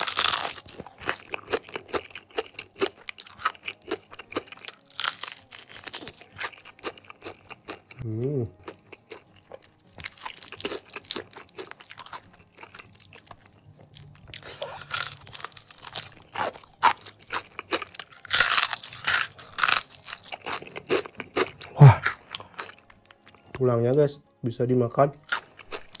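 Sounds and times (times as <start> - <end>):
crunchy chewing of fried chicken: 0.0 - 23.6, 25.2 - 26.0.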